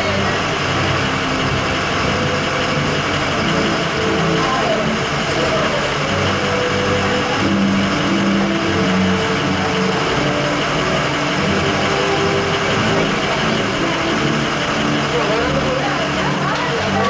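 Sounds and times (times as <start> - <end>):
truck engines idling: 0.0 - 17.0.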